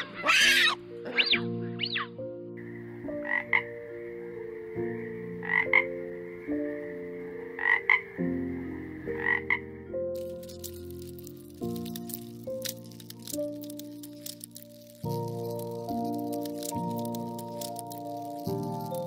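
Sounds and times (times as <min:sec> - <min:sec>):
frog croaking: 0:00.0 - 0:02.2, 0:02.9 - 0:19.0.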